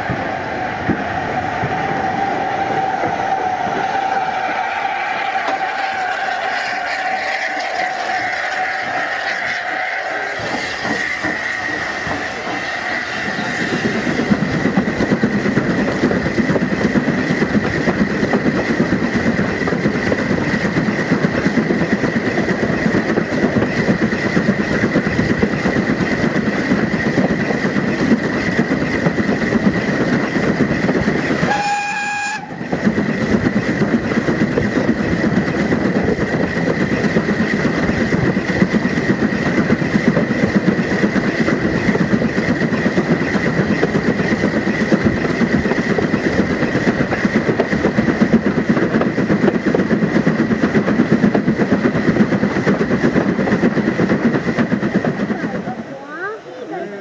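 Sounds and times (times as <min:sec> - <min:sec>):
clickety-clack of rails: 0:00.0 - 0:56.8
train wheels on rails: 0:00.0 - 0:57.0.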